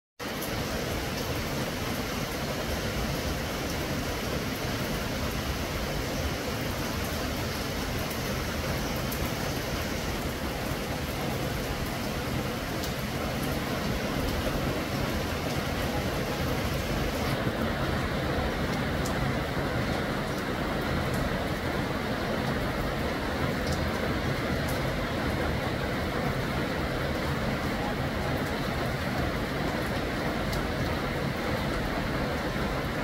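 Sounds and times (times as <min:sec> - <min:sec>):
rain falling on leaves: 0:00.2 - 0:33.0.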